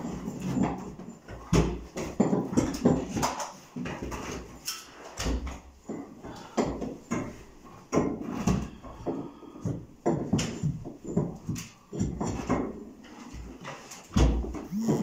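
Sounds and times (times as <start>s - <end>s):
hand tools knocking and scraping: 0.0s - 15.0s.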